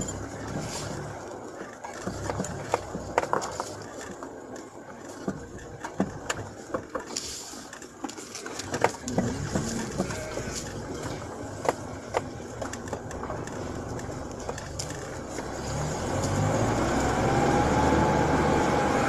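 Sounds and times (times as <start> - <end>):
knocks and rattles: 0.0 - 15.5
car engine and road noise: 0.0 - 19.0.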